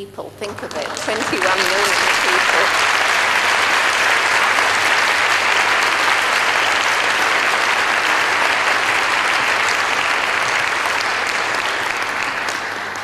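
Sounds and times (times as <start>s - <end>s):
audience applause: 0.5s - 13.0s.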